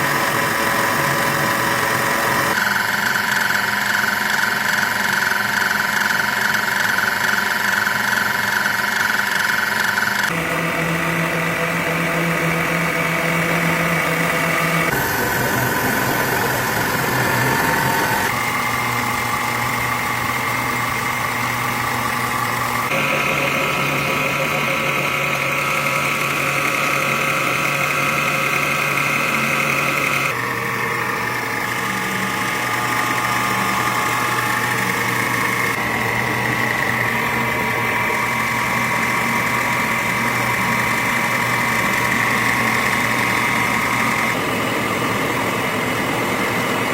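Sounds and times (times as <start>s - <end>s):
factory machinery humming: 0.0s - 46.9s.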